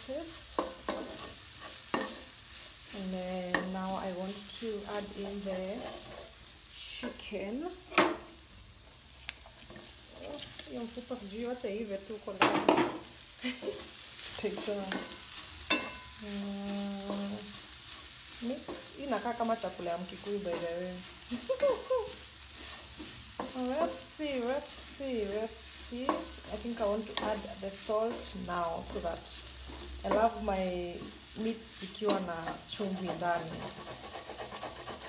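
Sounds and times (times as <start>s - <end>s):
chicken sizzling in a pan: 0.0s - 35.0s.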